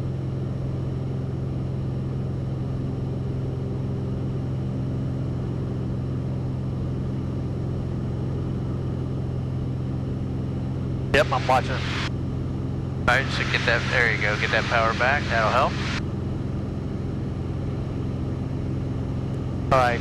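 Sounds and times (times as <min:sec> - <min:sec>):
aircraft engine and propeller droning: 0:00.0 - 0:20.0.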